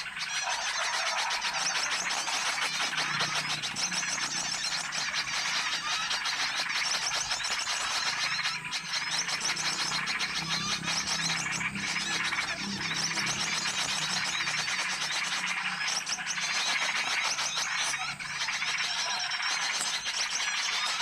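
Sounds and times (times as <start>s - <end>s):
songbirds chirping and twittering: 0.0s - 21.0s.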